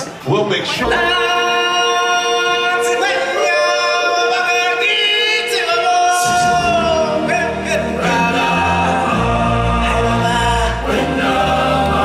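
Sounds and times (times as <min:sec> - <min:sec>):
vocal ensemble singing in harmony: 0:00.0 - 0:12.0.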